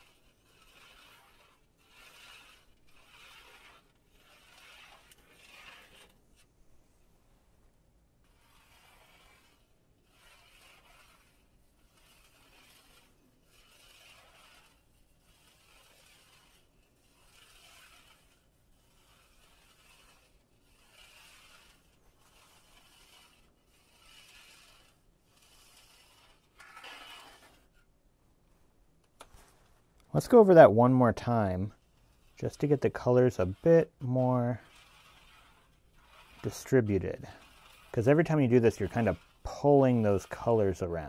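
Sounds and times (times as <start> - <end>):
stylus scraping swishes in liquid: 0.0 - 6.5, 8.3 - 27.9, 30.2 - 41.0.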